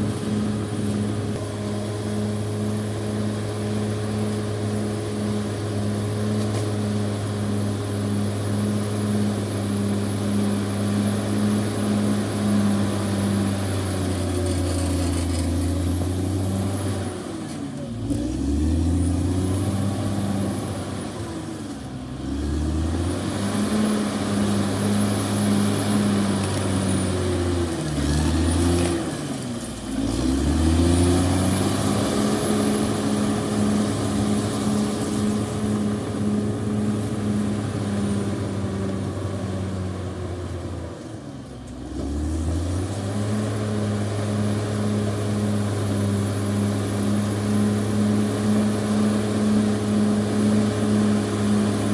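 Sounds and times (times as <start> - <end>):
bulldozer diesel engine revving: 0.0 - 41.0, 41.6 - 51.9.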